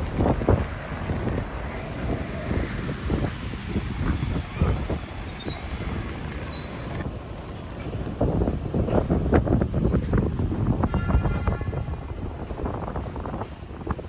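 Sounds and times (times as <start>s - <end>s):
passing traffic rumble: 0.0s - 14.0s
wind buffeting microphone: 0.0s - 14.0s.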